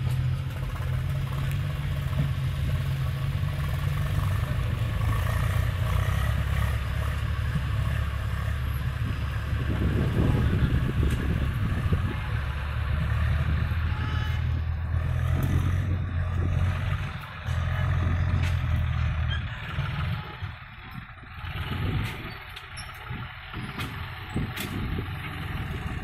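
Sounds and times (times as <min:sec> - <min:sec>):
diesel engines rumbling: 0:00.0 - 0:26.0.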